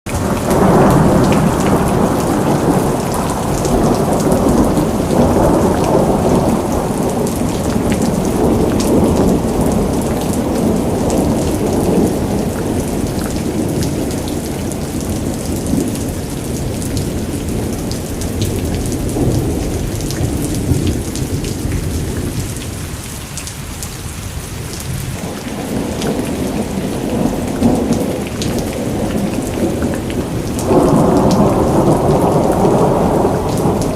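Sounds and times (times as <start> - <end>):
thunder rumbling: 0.1 - 23.0, 24.7 - 33.9
heavy rain falling: 0.1 - 33.9.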